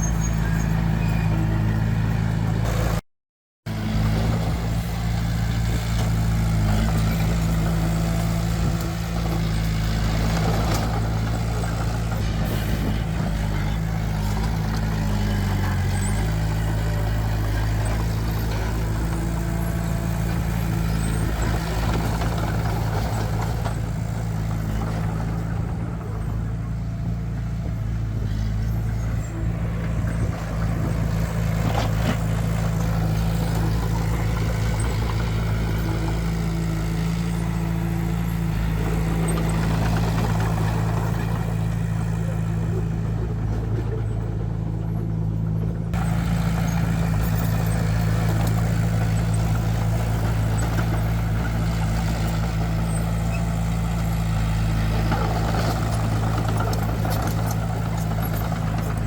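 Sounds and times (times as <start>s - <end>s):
diesel engine running: 0.0s - 3.0s, 3.7s - 59.0s.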